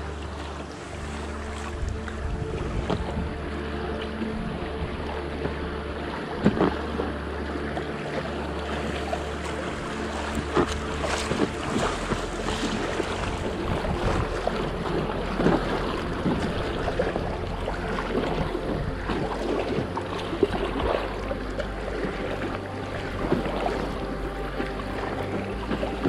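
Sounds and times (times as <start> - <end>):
paddle splashes: 0.0 - 26.0
water lapping against boat: 0.0 - 26.0
wind rumbling on microphone: 0.0 - 26.0.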